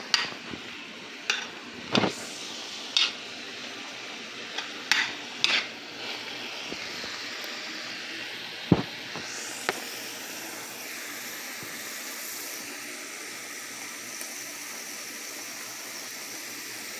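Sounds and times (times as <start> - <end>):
meat and onions sizzling in a pan: 0.0 - 16.9.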